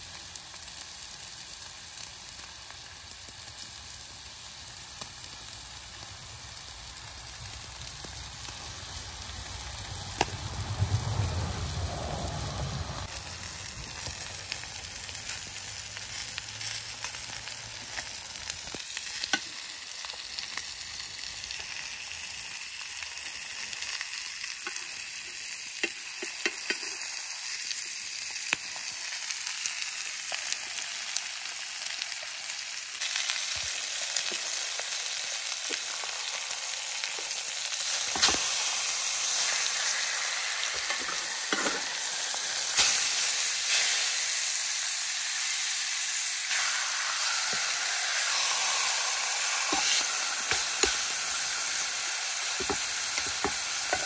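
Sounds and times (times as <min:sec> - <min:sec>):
steak sizzling in a skillet: 0:00.0 - 0:54.0.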